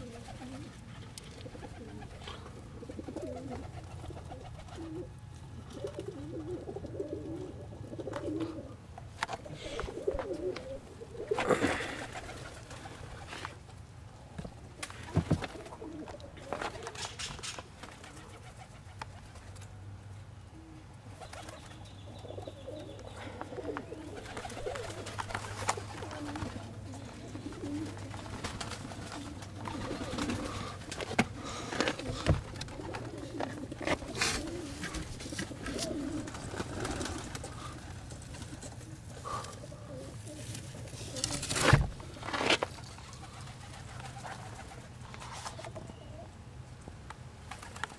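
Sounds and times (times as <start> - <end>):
pigeons cooing: 0.0 - 46.6.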